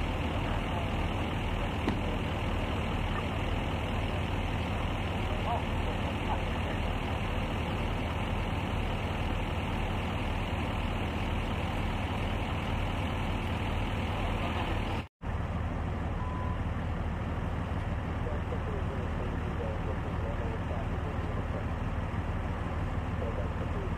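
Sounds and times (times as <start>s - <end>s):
large engine idling: 0.0s - 23.9s
street noise: 0.0s - 23.9s.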